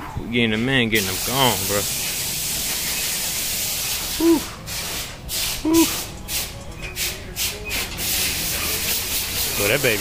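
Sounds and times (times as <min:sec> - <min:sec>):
hissing spray: 0:01.0 - 0:10.0.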